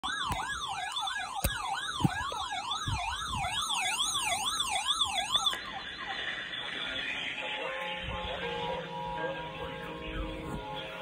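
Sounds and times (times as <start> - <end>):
electronic siren: 0.0 - 11.0.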